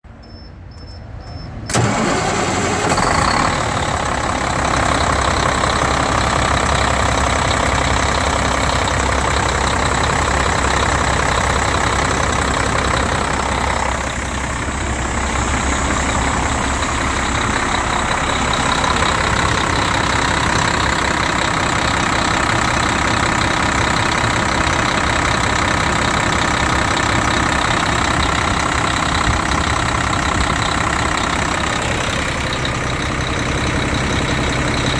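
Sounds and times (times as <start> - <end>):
diesel truck engine starting and idling: 0.1 - 34.9.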